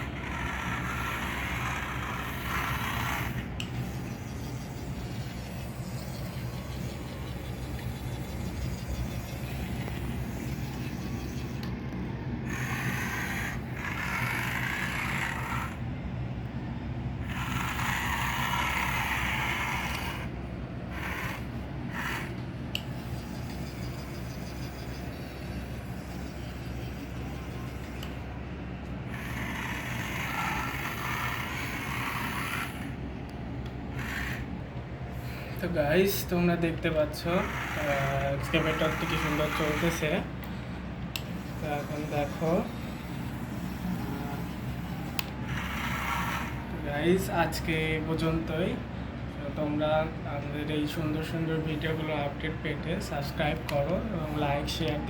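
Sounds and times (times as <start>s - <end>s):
toy electric motors whirring: 0.0s - 15.8s, 17.2s - 33.0s, 33.6s - 48.6s.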